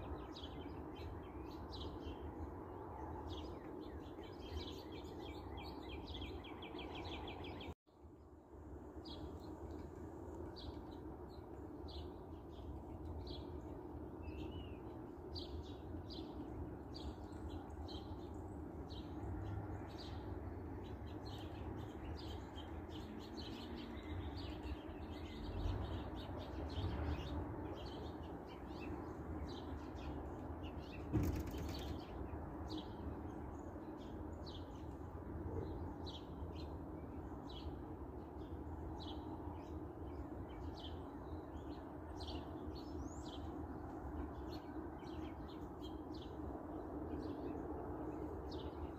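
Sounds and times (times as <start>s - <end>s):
small birds chirping: 0.0s - 7.8s, 8.9s - 48.9s.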